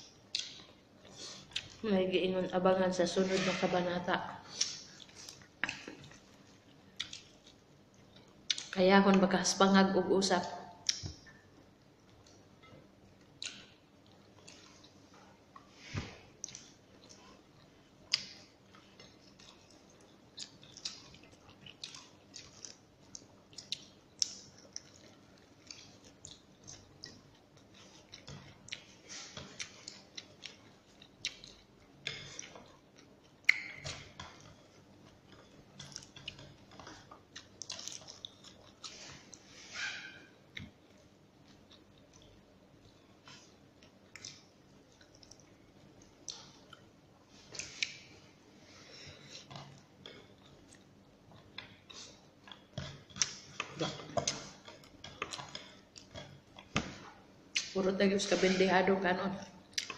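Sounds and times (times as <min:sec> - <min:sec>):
person chewing food: 0:00.1 - 0:01.8, 0:04.5 - 0:08.8, 0:10.8 - 0:57.8, 0:59.5 - 0:59.9.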